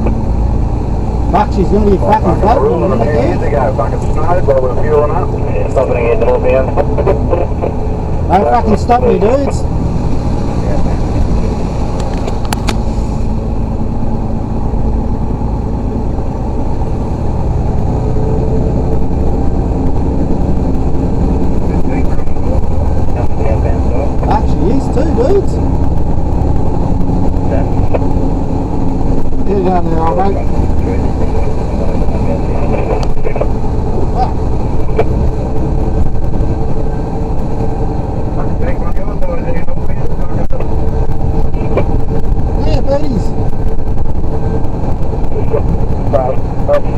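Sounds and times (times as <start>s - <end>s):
truck engine and road drone: 0.0s - 46.9s.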